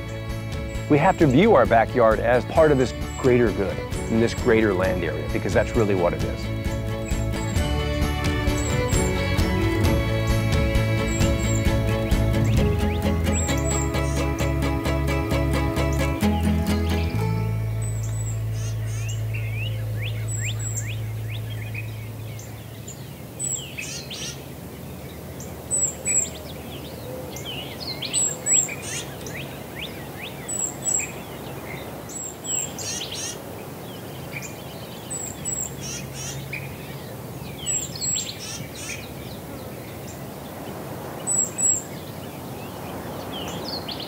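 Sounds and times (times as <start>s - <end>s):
songbirds singing: 0.0s - 44.0s.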